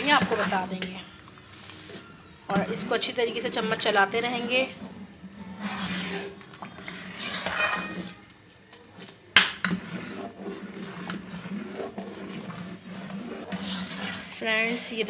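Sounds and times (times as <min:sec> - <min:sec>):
metal spoon stirring in steel pot: 0:00.0 - 0:15.0.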